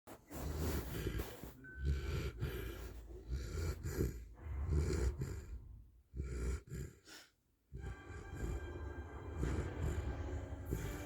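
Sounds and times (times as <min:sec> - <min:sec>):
rasping snores: 0:00.4 - 0:11.0.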